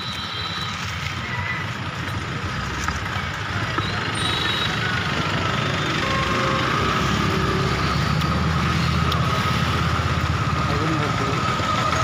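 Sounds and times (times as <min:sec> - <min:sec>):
engine idling: 0:01.6 - 0:12.0.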